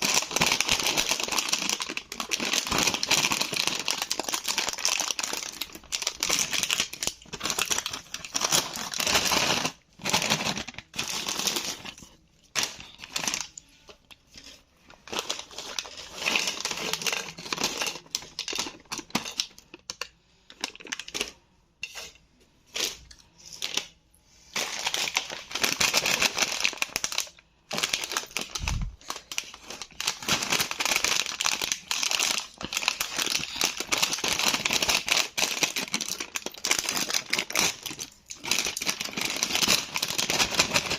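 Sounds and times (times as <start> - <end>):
chips packet crinkling: 0.0 - 21.4, 24.6 - 40.9.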